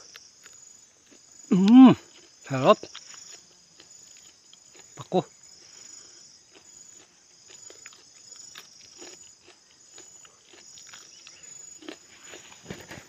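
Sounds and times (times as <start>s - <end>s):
insect chorus trilling: 0.0s - 13.0s.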